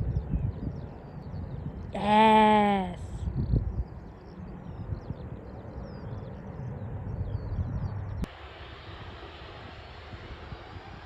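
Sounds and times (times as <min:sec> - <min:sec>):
jet airliner rumbling: 0:00.0 - 0:11.0.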